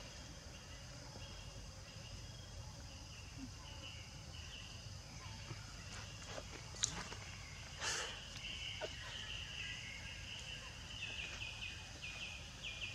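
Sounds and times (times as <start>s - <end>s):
faint chirps: 0.0s - 12.9s
insects droning: 0.0s - 12.9s.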